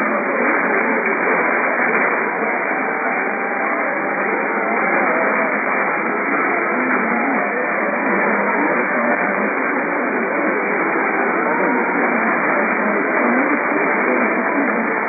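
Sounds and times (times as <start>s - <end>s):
faint wavering radio signal: 0.0s - 15.0s
radio static: 0.0s - 15.0s.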